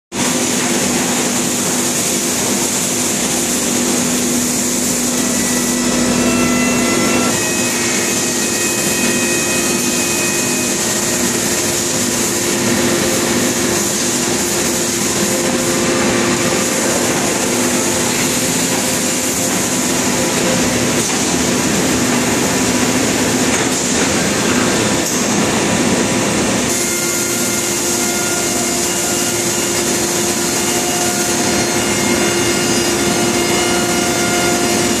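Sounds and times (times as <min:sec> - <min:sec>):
laminating press machine hum: 0:00.1 - 0:35.0.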